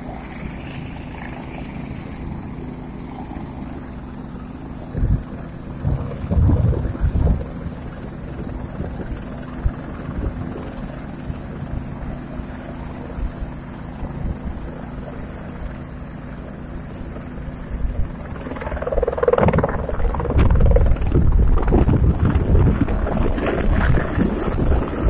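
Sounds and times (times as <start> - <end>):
helicopter rotor and engine: 0.0 - 25.0
high turbine whine: 0.0 - 25.0.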